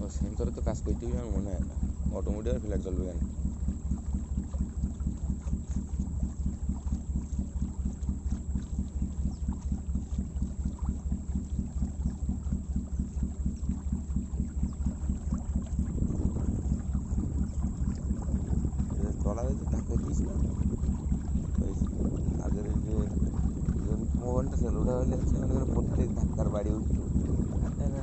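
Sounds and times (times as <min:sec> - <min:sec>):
motorboat engine throbbing: 0:00.0 - 0:28.0
water against hull: 0:00.0 - 0:28.0.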